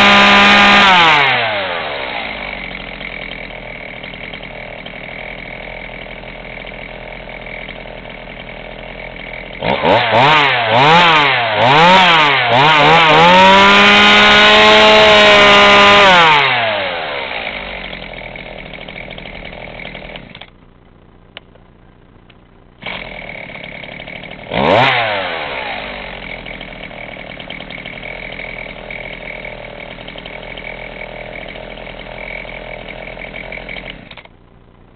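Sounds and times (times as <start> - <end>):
chainsaw revving and idling: 0.0 - 20.6, 22.8 - 34.4.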